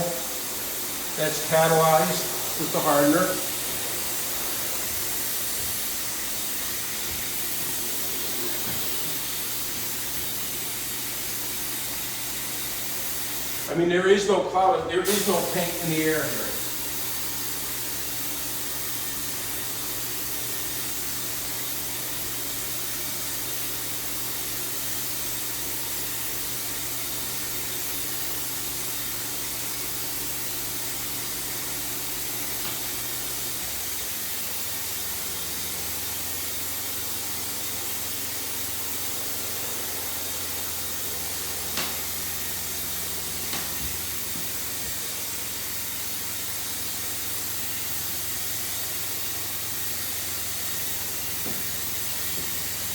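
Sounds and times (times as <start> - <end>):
spray gun air hiss: 0.0 - 52.9.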